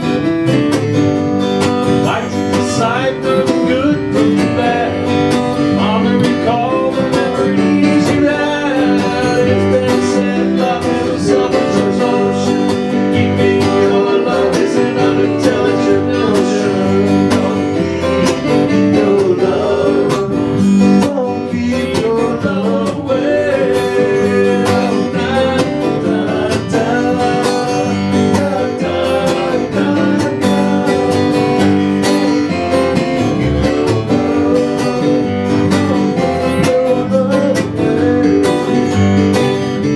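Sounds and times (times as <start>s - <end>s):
strummed acoustic guitar: 0.0s - 39.9s.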